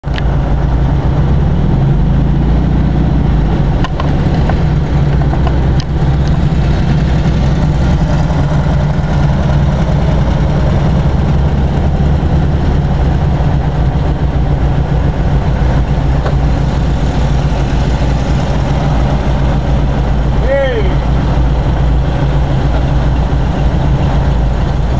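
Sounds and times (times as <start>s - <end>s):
car engines droning: 0.0s - 24.9s.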